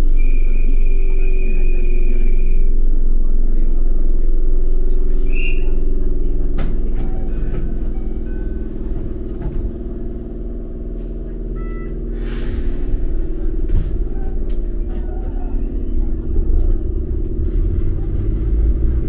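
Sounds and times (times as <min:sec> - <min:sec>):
low motor hum: 0:00.0 - 0:19.0
train running rumble: 0:00.0 - 0:19.0.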